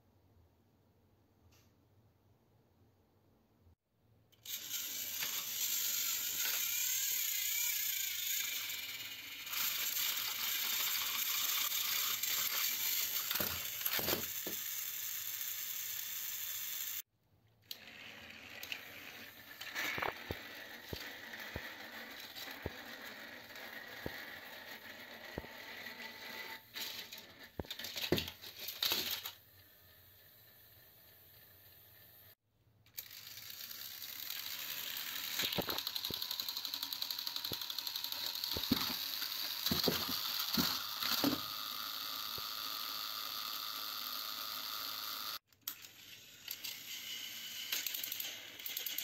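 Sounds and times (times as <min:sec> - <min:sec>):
toy trains clattering: 0:04.3 - 0:17.0, 0:17.6 - 0:30.3, 0:32.9 - 0:49.0
toy train motors whirring: 0:04.3 - 0:49.0.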